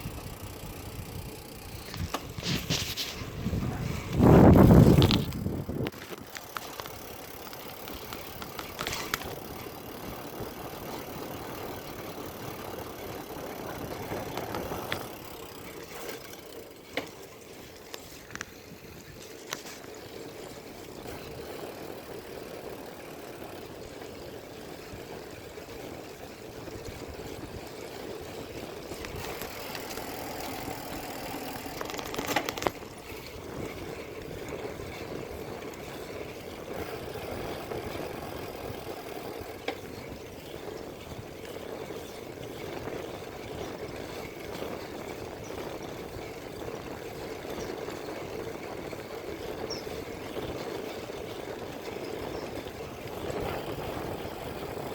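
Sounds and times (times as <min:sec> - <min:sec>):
motor vehicle noise: 0:00.0 - 0:54.9.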